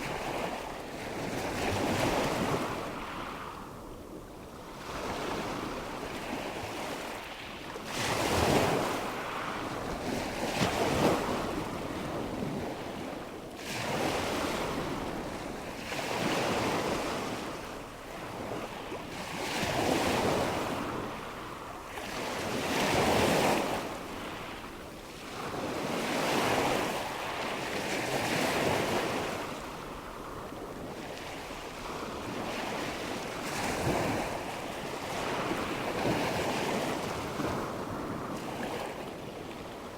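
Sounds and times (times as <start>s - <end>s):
wind: 0.0s - 39.9s.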